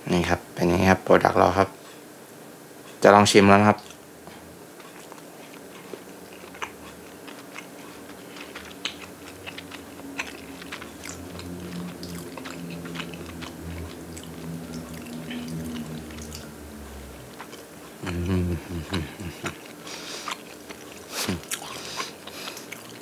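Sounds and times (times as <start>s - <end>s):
person chewing sandwich: 3.8s - 23.0s.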